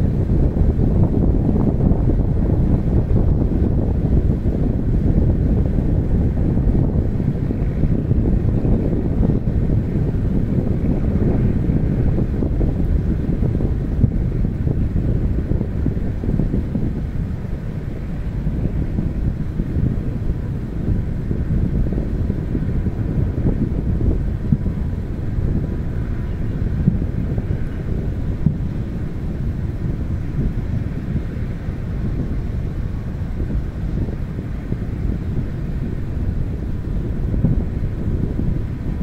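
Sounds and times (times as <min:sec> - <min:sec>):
wind buffeting the microphone: 0:00.0 - 0:39.0.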